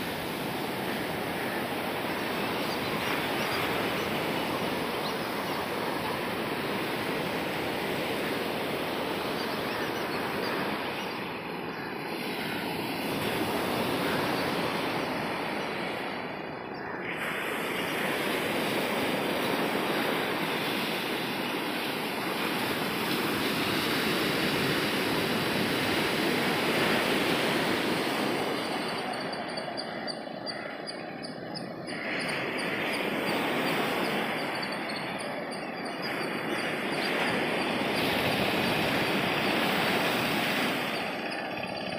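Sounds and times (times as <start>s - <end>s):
waves breaking on beach: 0.0s - 41.9s.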